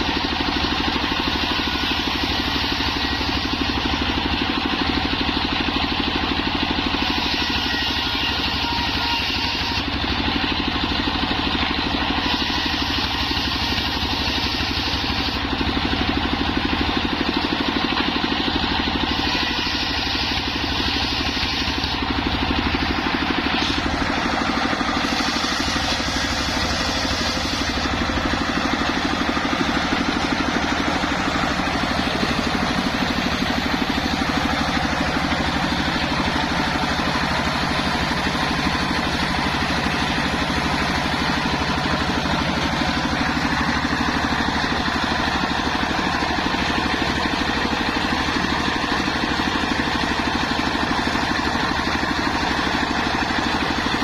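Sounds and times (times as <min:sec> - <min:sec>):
saw rig engine running: 0:00.0 - 0:54.0.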